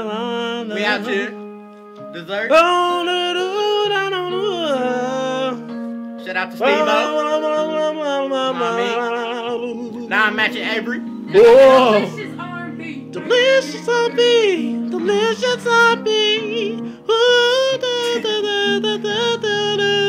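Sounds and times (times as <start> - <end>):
person singing: 0.0 - 1.5, 2.5 - 5.7, 6.6 - 12.4, 13.0 - 20.0.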